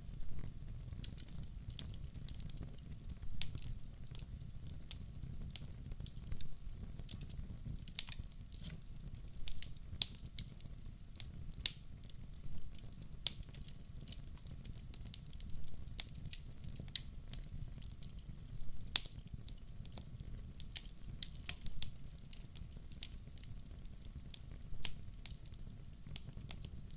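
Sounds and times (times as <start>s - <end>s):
low rumble of flames: 0.0s - 26.9s
wood fire crackling and popping: 0.0s - 26.9s.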